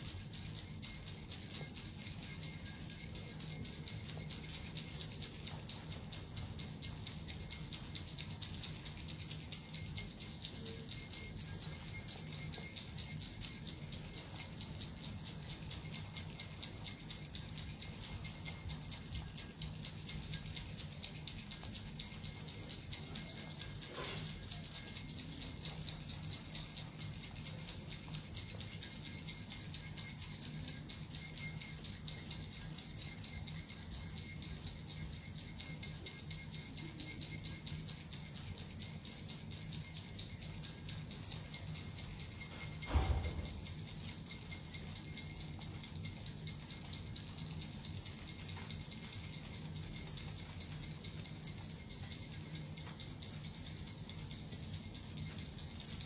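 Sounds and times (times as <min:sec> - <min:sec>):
small metal bells jingling: 0:00.0 - 0:56.0.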